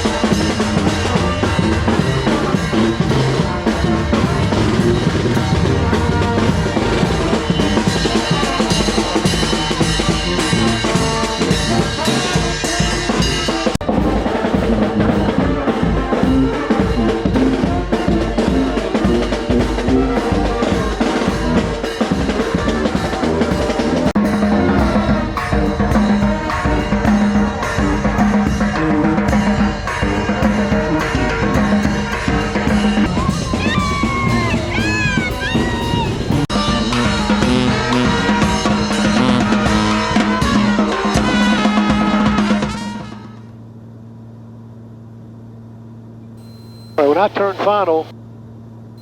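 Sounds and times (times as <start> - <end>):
music with drum beat: 0.0 - 43.4.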